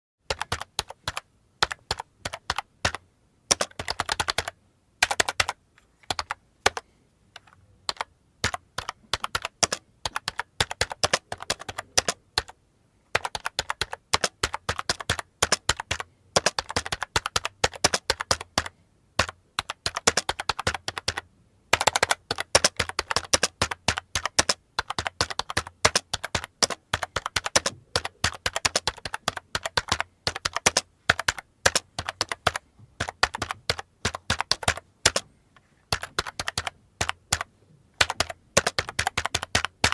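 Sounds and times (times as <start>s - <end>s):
computer keyboard typing: 0.3s - 6.8s, 7.4s - 35.3s, 35.9s - 39.9s.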